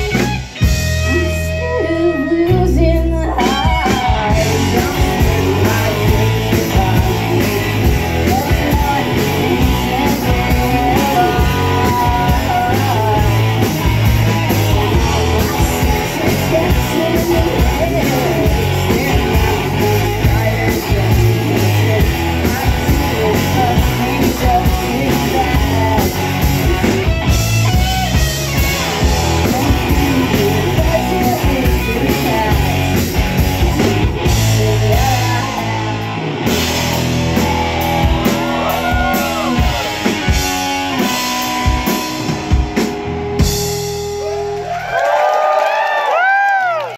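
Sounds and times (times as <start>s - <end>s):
person singing: 0.0s - 40.4s
drum kit: 0.0s - 46.8s
bass guitar: 0.0s - 46.9s
electric guitars: 0.0s - 46.9s.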